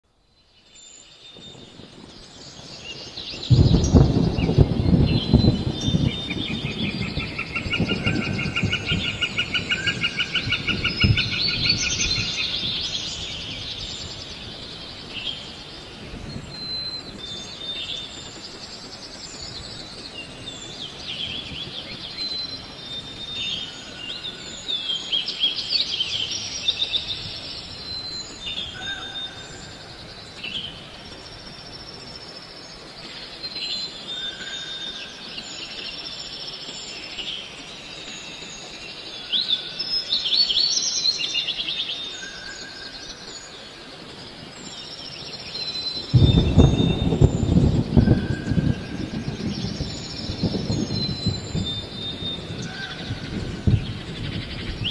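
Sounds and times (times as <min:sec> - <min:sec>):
birds whistling and chirping: 0:00.7 - 0:54.9.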